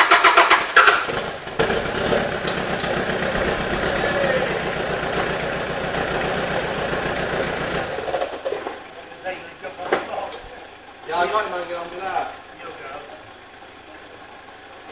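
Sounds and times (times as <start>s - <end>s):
diesel engine cranking and idling: 0.0s - 14.9s.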